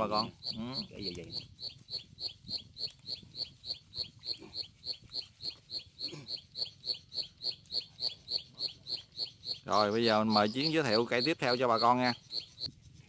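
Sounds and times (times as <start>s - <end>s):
small animal chirping: 0.0s - 12.8s.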